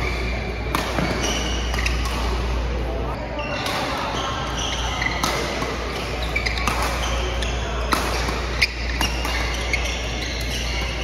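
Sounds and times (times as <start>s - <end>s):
rackets hitting shuttlecock: 0.0s - 2.9s, 3.5s - 11.0s
shoes squeaking on court: 0.0s - 11.0s.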